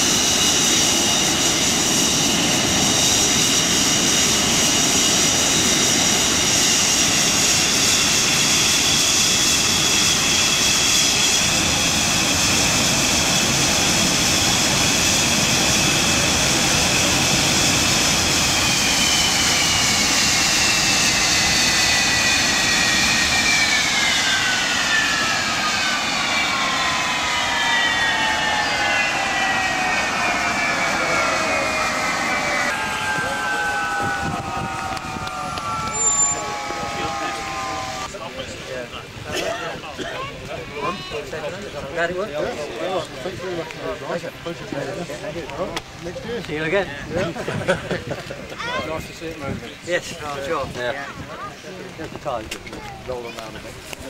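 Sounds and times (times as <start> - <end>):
jet engines whining: 0.0 - 54.0
jet roar: 0.0 - 54.0.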